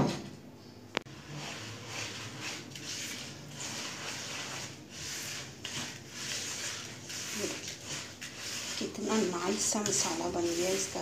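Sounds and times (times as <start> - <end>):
hand mixing wet spices: 1.1 - 11.0.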